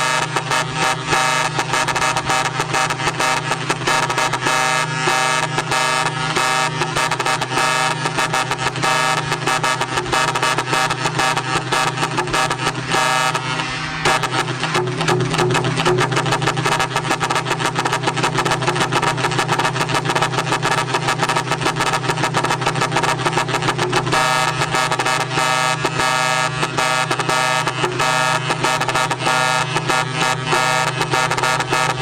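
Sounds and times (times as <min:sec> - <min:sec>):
electronic chirping horn: 0:00.0 - 0:32.0
steady low buzz: 0:00.0 - 0:32.0.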